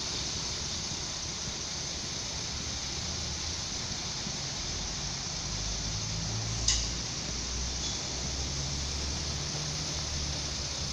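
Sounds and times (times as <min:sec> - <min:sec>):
outdoor noise hiss: 0:00.0 - 0:10.9
train engine hum: 0:00.0 - 0:10.9.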